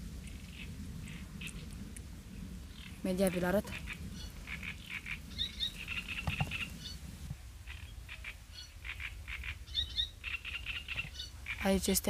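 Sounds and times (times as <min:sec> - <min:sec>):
steady low rumble: 0:00.0 - 0:12.0
small birds chirping: 0:00.1 - 0:12.0.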